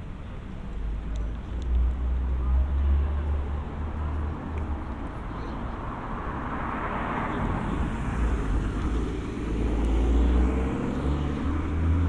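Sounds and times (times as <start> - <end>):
car passing with tyre noise: 0.2 - 12.0
vehicle engine droning: 0.8 - 12.0.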